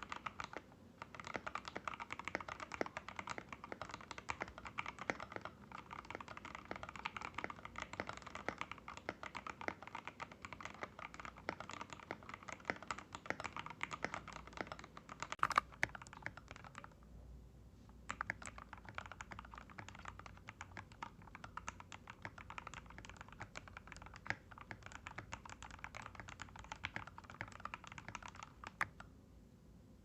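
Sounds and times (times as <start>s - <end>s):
mechanical keyboard keys clacking: 0.0s - 16.9s, 18.1s - 29.0s.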